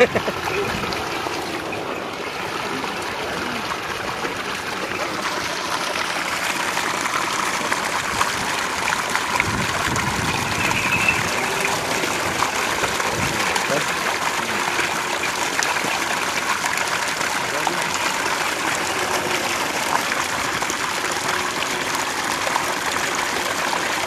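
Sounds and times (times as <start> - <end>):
water gushing from a pipe: 0.0 - 24.0.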